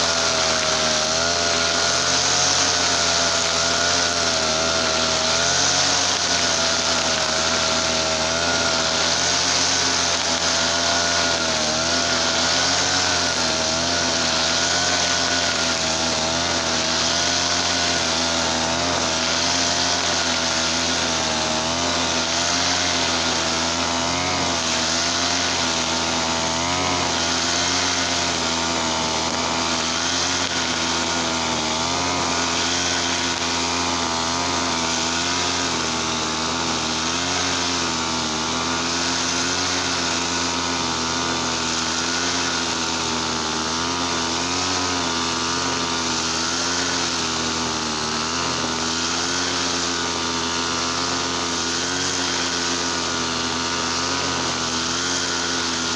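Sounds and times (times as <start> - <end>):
brush cutter engine running: 0.0 - 55.9.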